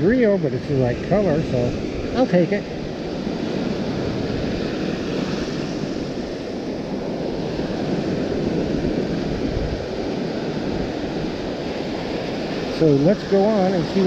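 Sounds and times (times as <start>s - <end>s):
rough surf washing in: 0.0s - 14.0s
wind on microphone: 0.0s - 14.0s.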